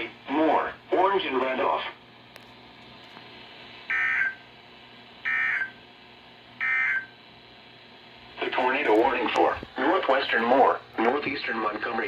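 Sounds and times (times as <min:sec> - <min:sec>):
faint radio hiss: 0:00.0 - 0:12.0.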